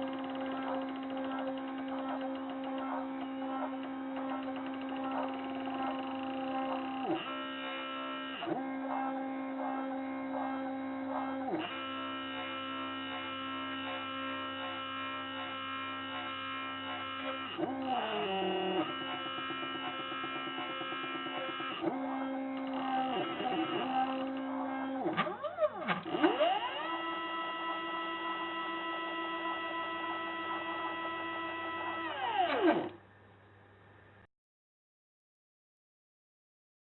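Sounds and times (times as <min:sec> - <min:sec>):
cnc router motor whine: 0:00.0 - 0:33.0.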